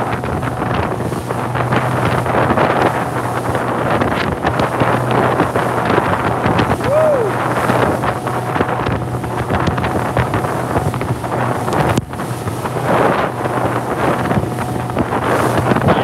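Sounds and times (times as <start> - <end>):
boat engine hum: 0.0 - 16.0
waves slapping boat: 0.0 - 16.0
wind buffeting microphone: 0.0 - 16.0.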